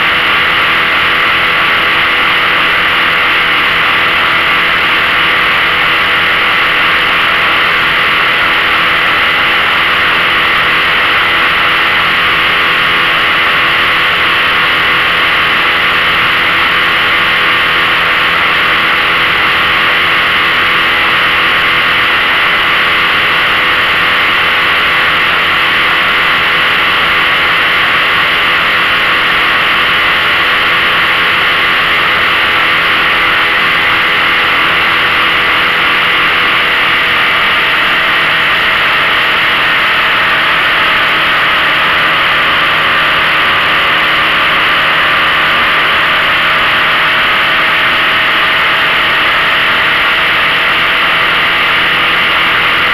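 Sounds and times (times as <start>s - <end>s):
outboard motor running under load: 0.0s - 52.9s.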